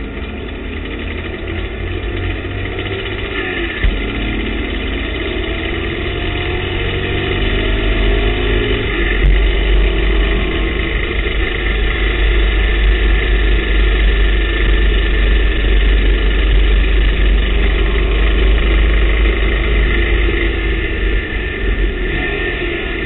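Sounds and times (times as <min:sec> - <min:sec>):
race car engine running hard: 0:00.0 - 0:23.0
wind and road noise: 0:00.0 - 0:23.0.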